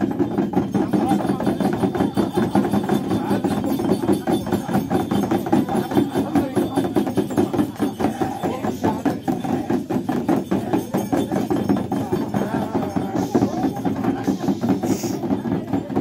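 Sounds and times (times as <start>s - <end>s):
frame drum beaten rapidly: 0.0s - 16.0s
voices: 0.0s - 16.0s.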